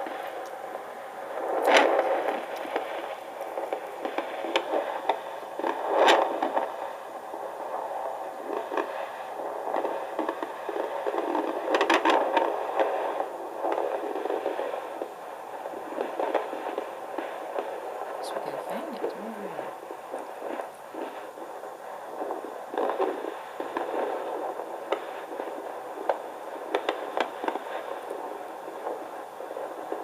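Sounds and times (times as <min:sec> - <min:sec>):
doppler speaker static hiss: 0:00.0 - 0:30.0.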